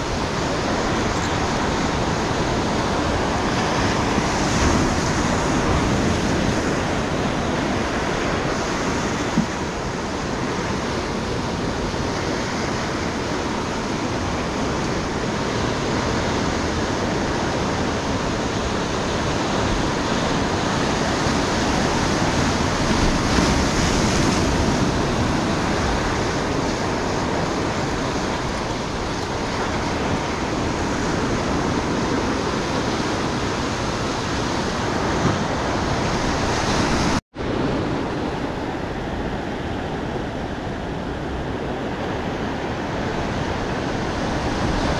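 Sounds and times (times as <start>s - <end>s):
surf washing over rocks: 0.0s - 44.9s.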